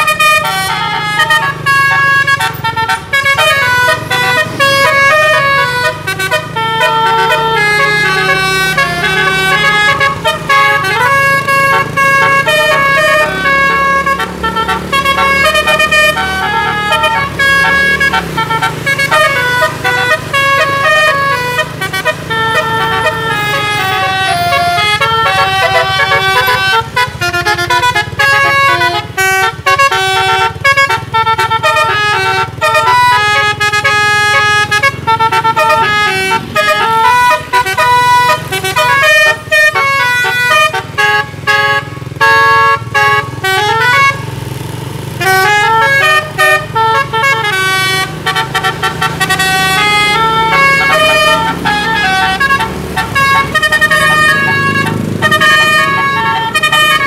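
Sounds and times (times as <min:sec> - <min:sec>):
musical air horn melody: 0:00.0 - 0:44.2, 0:45.2 - 0:57.0.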